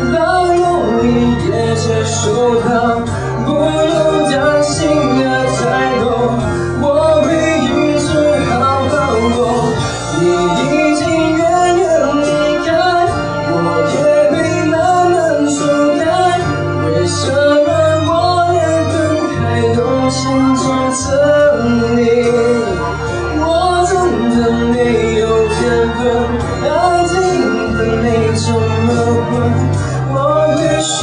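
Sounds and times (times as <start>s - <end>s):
backing music: 0.0s - 31.0s
man singing pop ballad: 0.0s - 31.0s.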